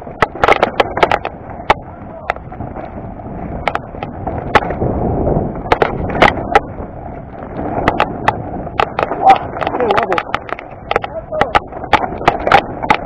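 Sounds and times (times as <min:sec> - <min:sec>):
bike rattling: 0:00.0 - 0:13.0
tyres rushing on gravel: 0:00.0 - 0:13.0
wheels knocking on stones: 0:00.0 - 0:13.0.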